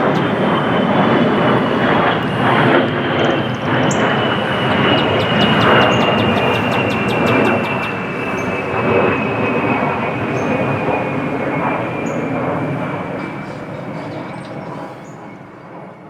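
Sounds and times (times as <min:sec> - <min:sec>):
jet aircraft passing overhead: 0:00.0 - 0:16.0.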